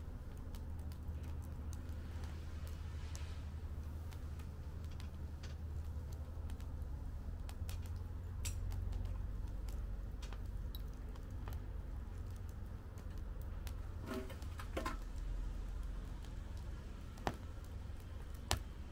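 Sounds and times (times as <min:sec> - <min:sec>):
low steady fire rumble: 0:00.0 - 0:18.9
wood fire crackling and popping: 0:00.0 - 0:18.9.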